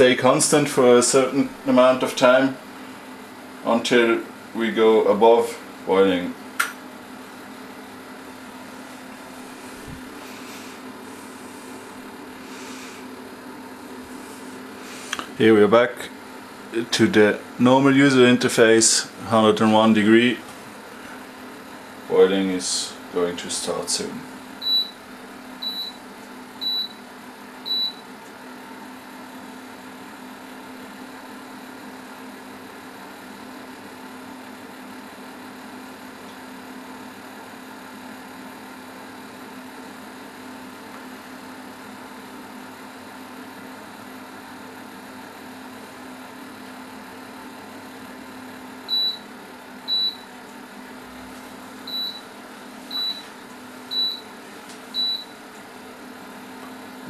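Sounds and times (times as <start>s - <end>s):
machine hum: 0.0s - 31.9s, 41.6s - 57.0s.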